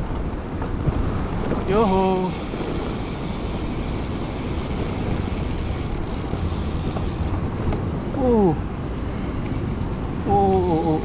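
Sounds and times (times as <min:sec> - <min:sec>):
wind rush on microphone: 0:00.0 - 0:11.0.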